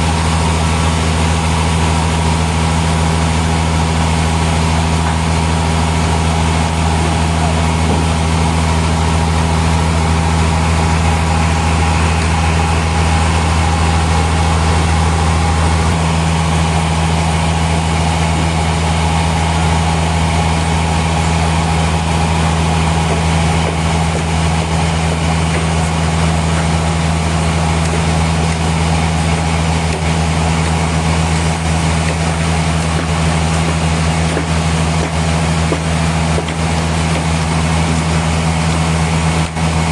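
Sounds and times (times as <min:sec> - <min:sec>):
machinery low hum: 0:00.0 - 0:39.9.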